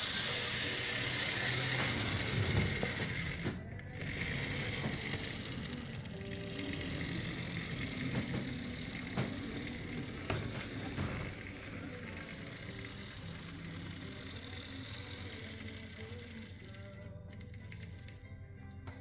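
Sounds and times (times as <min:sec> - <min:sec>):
model locomotive motor whirring: 0:00.0 - 0:19.0.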